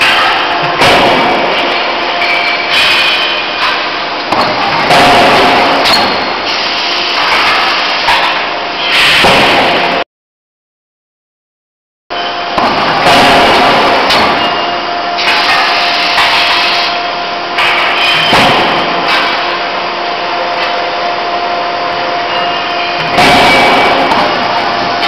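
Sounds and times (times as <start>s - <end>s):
forging hammer machine hum: 0.0s - 10.0s, 12.1s - 25.0s.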